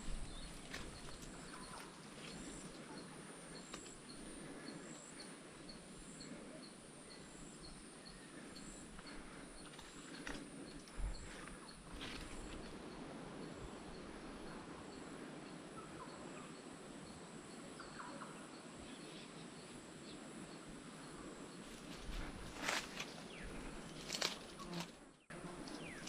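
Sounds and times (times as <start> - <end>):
insect hiss: 0.0 - 26.0.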